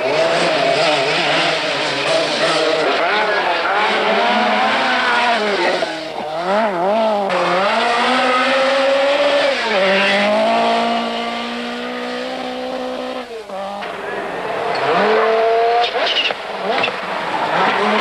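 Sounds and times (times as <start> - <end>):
rally car engine at full throttle: 0.0 - 18.0.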